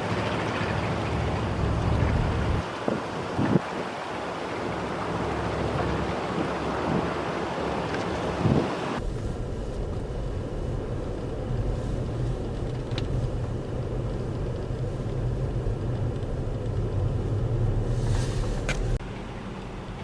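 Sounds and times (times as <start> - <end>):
vehicle engine rumbling: 0.0 - 3.6, 5.2 - 20.0.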